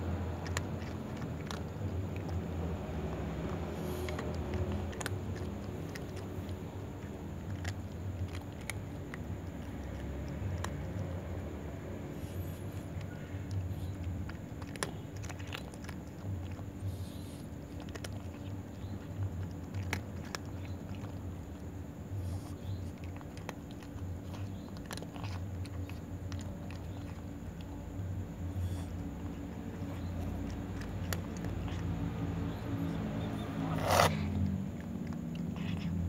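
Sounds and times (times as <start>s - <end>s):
cat crunching dry kibble: 0.0s - 36.0s
steady low hum: 0.0s - 36.0s.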